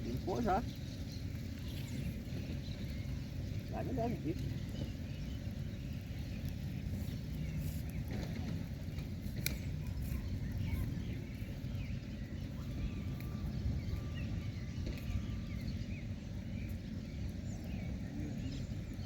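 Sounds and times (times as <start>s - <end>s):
bird chirps: 0.0s - 19.0s
wind rumble on microphone: 0.0s - 19.0s.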